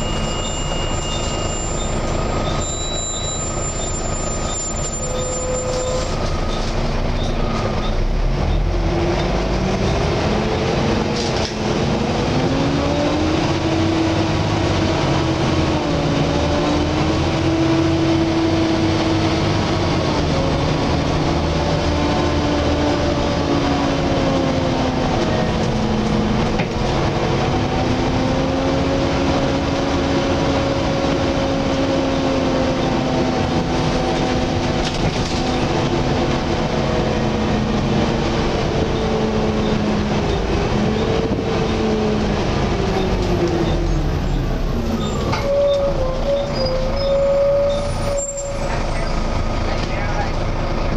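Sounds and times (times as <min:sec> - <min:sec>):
bus engine rumble: 0:00.0 - 0:50.9.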